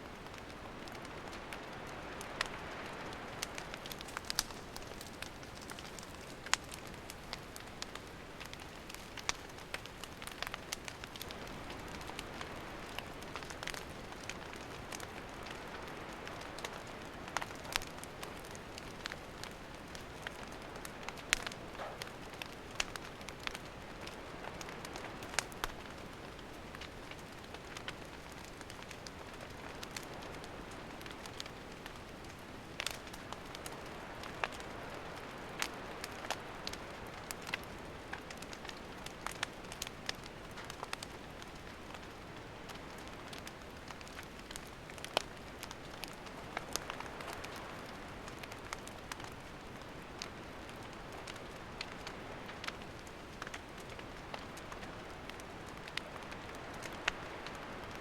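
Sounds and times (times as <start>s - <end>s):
campfire crackling and popping: 0.0s - 58.0s
soft fire hiss: 0.0s - 58.0s.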